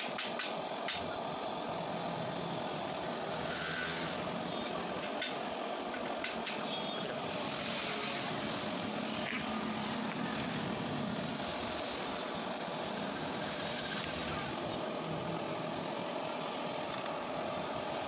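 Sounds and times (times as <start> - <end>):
steady mechanical drone: 0.0 - 18.0.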